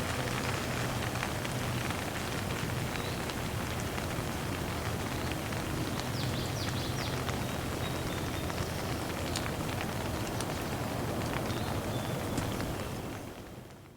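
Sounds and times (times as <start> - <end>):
light rain falling: 0.0 - 13.9.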